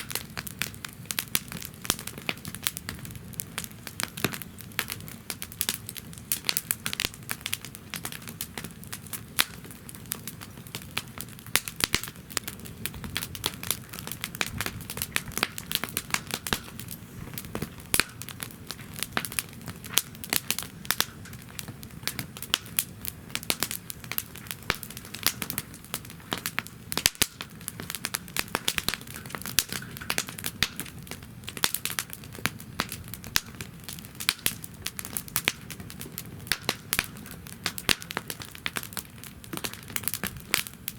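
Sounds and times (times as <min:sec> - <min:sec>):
campfire crackling and popping: 0:00.0 - 0:40.9
low steady rush of fire: 0:00.0 - 0:40.9.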